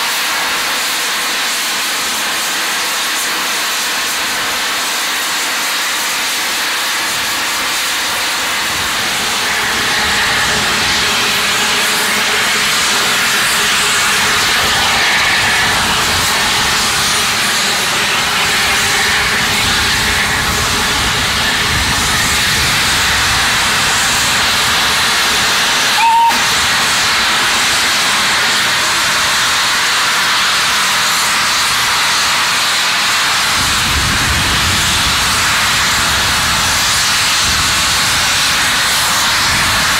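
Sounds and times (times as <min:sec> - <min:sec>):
steam hissing: 0:00.0 - 0:39.9.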